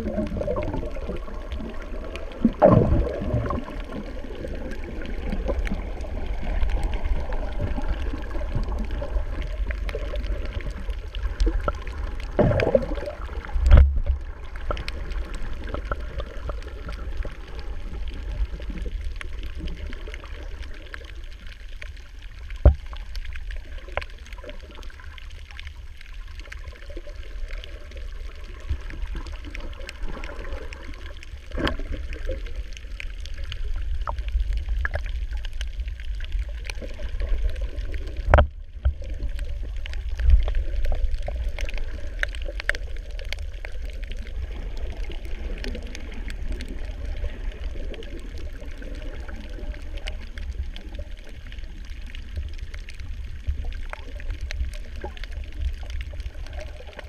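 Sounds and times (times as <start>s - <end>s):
faint underwater clicks: 0.0s - 57.0s
underwater rumble of moving water: 0.0s - 57.0s.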